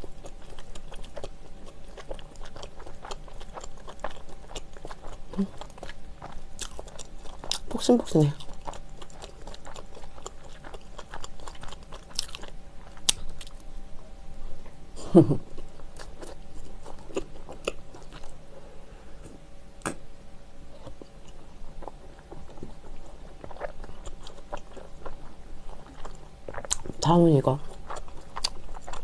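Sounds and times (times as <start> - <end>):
chewing soft bread: 0.0 - 18.6, 20.6 - 29.0.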